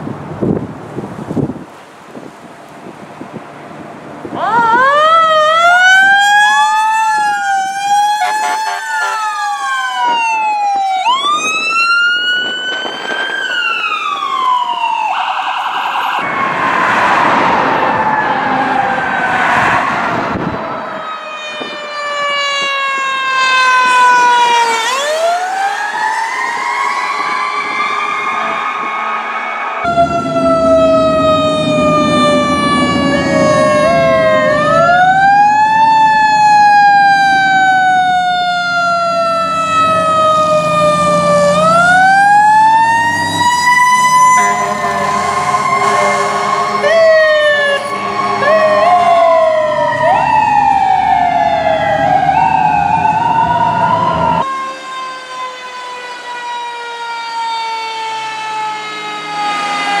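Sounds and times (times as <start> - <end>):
fire truck sirens wailing: 3.3 - 60.0
fast rising siren sweeps: 4.3 - 60.0
siren tone falling slowly: 4.4 - 56.4.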